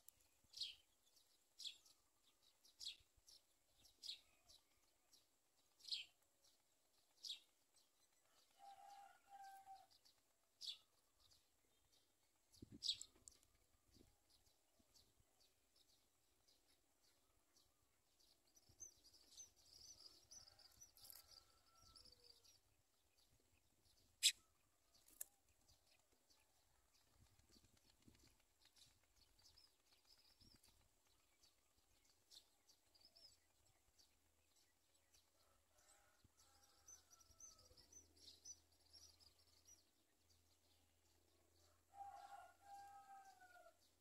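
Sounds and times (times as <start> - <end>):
small birds chirping: 0.0 - 43.2.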